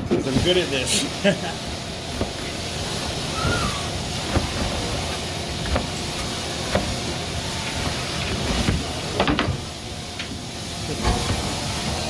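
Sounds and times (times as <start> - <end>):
spraying water hiss: 0.2 - 12.0.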